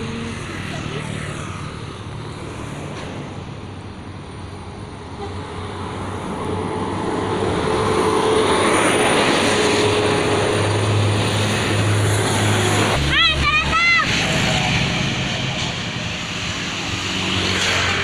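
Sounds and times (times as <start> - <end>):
bus engine and tyre noise: 0.0 - 18.0.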